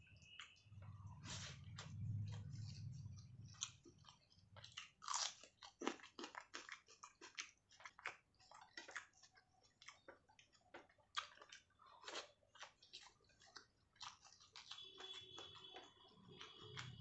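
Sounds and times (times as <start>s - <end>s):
person chewing crunchy food: 0.2s - 17.0s.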